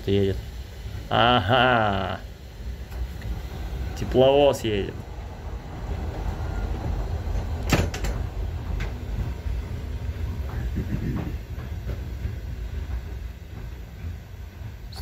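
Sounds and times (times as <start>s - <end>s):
diesel locomotive low rumble: 0.0s - 15.0s
coaches rolling past: 2.2s - 15.0s.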